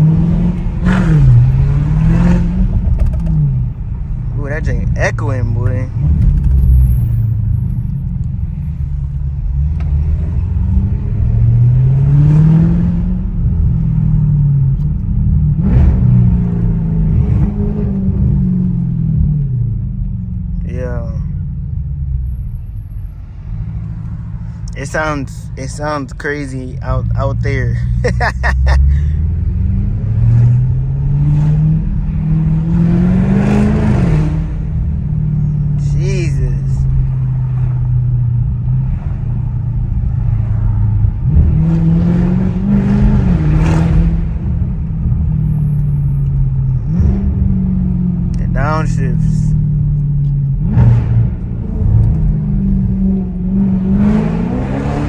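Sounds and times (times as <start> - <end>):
car exhaust under acceleration: 0.0 - 55.0.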